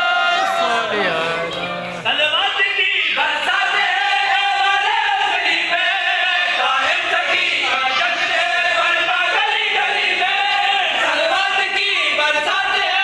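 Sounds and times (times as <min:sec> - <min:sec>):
men chanting devotional poem: 0:00.0 - 0:13.0.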